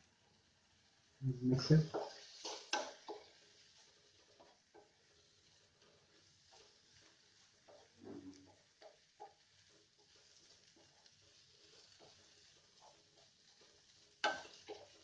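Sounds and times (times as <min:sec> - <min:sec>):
spoon scraping in a pan: 0:01.9 - 0:15.0.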